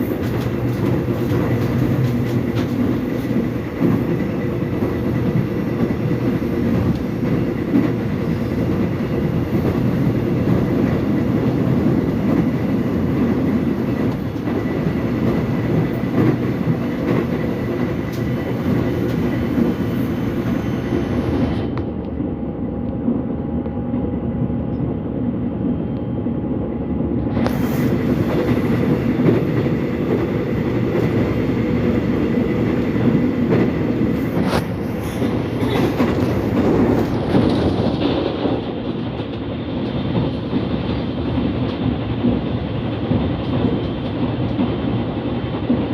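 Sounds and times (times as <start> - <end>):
wheels clickety-clack: 0.0 - 20.6, 27.4 - 45.9
subway train wheels rumbling: 0.0 - 45.9.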